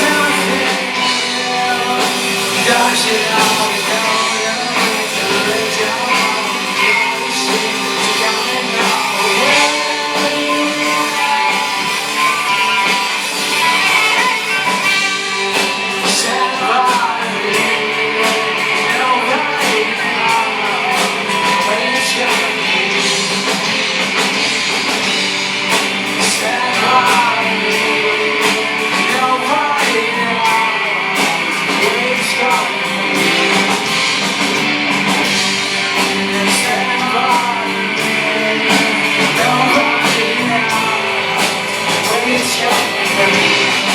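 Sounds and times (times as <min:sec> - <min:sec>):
person singing: 0:00.0 - 0:43.9
rock band playing live: 0:00.0 - 0:43.9.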